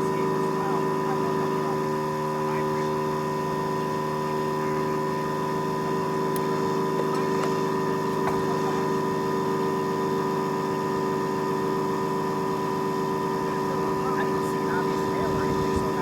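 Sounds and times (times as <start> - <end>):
motor humming steadily: 0.0 - 16.0.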